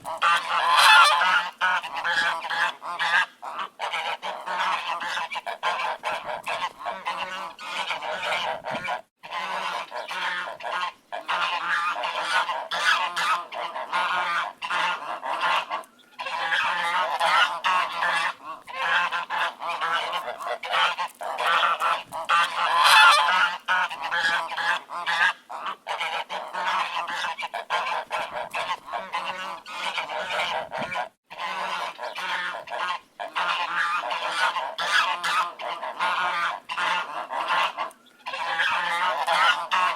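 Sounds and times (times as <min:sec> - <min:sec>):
flock of ducks quacking: 0:00.0 - 0:39.9.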